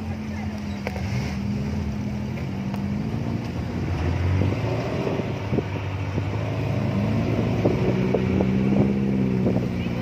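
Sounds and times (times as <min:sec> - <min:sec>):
jeep engine idling: 0:00.0 - 0:10.0.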